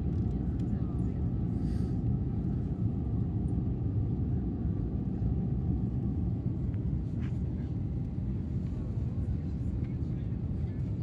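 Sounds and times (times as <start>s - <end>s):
aircraft engines rumbling in cabin: 0.0s - 11.0s.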